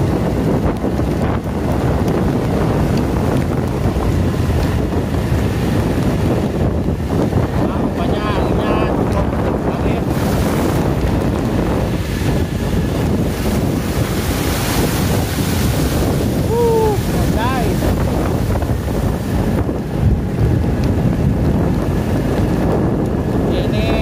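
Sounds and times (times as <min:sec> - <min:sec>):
heavy rain: 0:00.0 - 0:24.0
wind buffeting microphone: 0:00.0 - 0:24.0.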